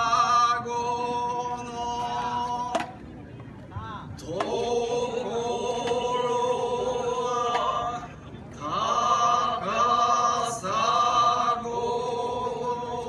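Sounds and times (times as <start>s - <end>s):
voices chanting a slow song: 0.0s - 3.0s, 3.8s - 13.0s.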